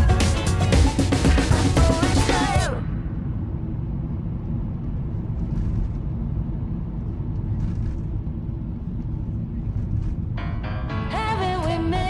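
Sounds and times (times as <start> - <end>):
car engine and tyres on road: 1.1 - 12.0.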